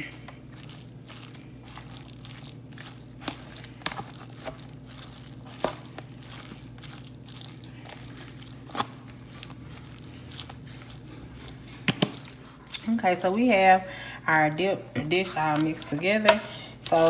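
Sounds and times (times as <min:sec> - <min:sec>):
fork stirring thick mixture: 0:00.0 - 0:14.0, 0:14.6 - 0:17.0
steady low hum: 0:00.0 - 0:17.0.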